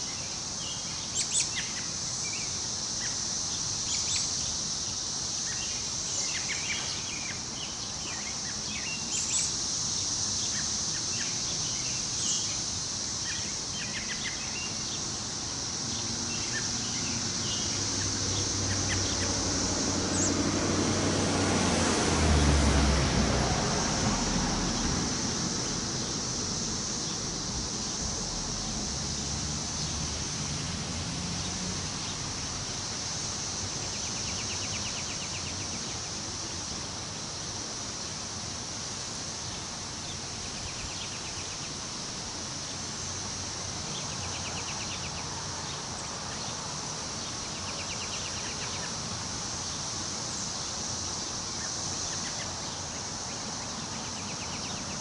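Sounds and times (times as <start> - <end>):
high-pitched insect drone: 0.0 - 21.7, 23.4 - 55.0
wind rustling leaves: 0.0 - 55.0.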